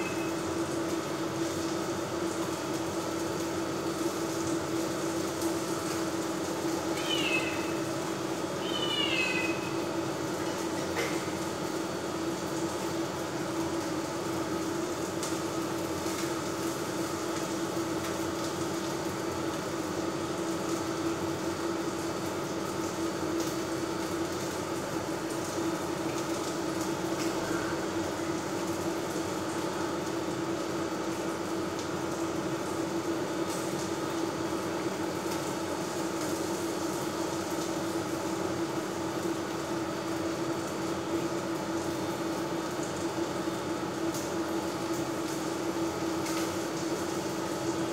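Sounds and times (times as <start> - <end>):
fan hum: 0.0 - 47.9.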